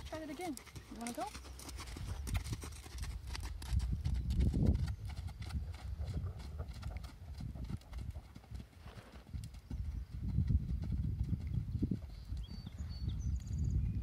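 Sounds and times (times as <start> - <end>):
horse hoofbeats on sand: 0.0 - 13.2.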